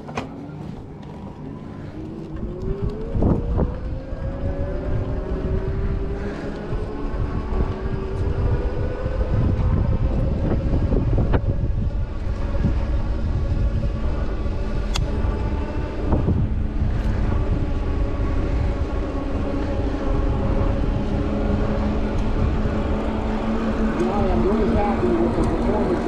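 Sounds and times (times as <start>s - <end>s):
bike motor and tyres humming: 0.0s - 26.0s
wind rushing over microphone: 0.7s - 26.0s.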